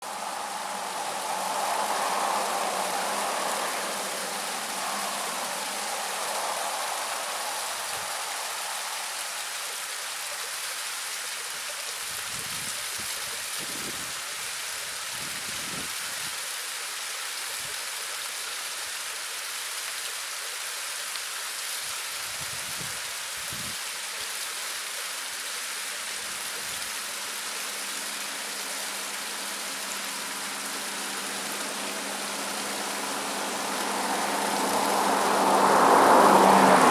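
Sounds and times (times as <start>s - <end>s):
small waterfall splashing: 0.0s - 36.9s.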